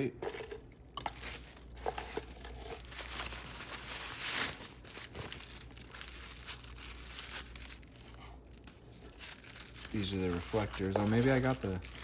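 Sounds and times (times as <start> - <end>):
plastic packaging crinkling: 0.3 - 12.0.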